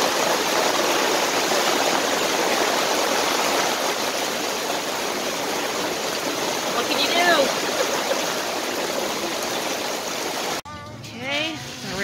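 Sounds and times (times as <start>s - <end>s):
heavy rain pouring: 0.0s - 10.6s.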